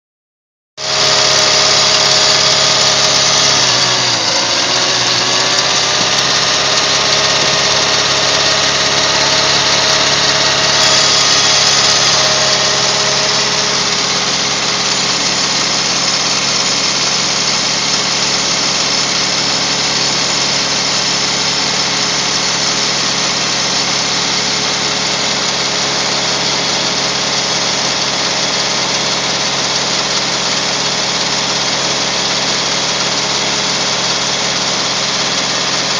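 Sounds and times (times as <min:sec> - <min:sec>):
car engine running at raised revs: 0:00.8 - 0:35.9.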